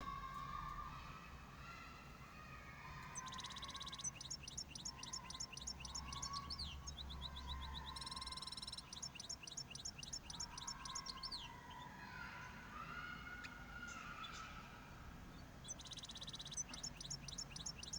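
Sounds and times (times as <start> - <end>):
cage bird singing: 2.9 - 17.9.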